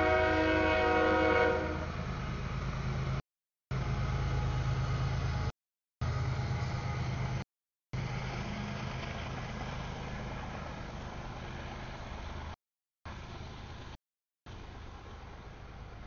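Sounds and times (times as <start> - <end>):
freight train rumbling past: 0.0 - 7.4, 8.0 - 16.0.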